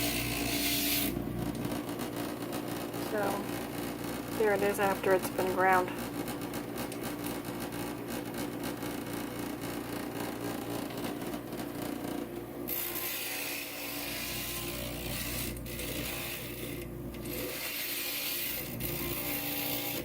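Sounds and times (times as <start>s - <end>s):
glass grinder motor humming: 0.0s - 20.0s.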